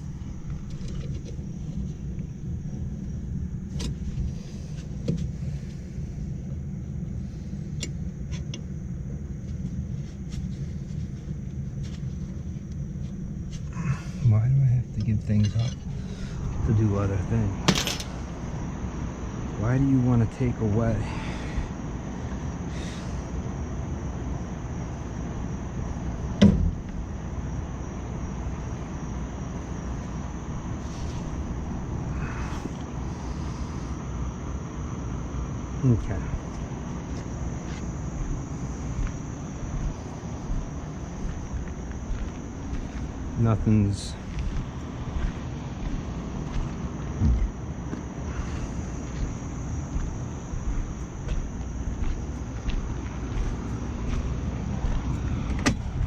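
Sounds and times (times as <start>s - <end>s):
machinery rumbling: 0.0s - 56.0s.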